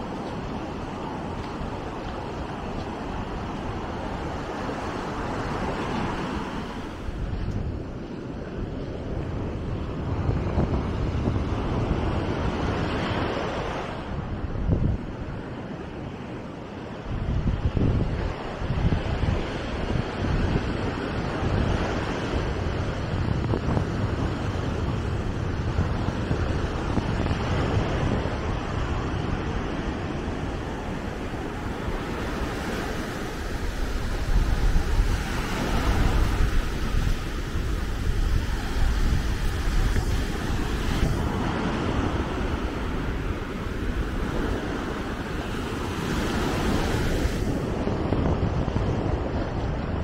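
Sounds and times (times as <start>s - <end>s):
waves washing on sandy shore: 0.0s - 50.0s
wind buffeting microphone: 0.0s - 50.0s.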